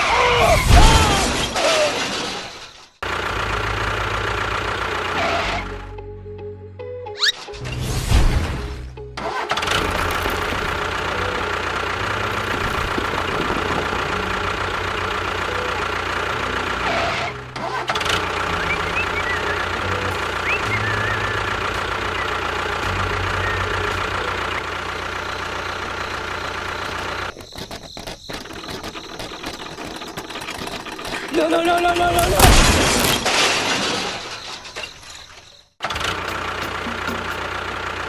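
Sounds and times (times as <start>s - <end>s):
engine running: 3.0s - 7.2s, 8.3s - 33.4s, 35.8s - 38.0s.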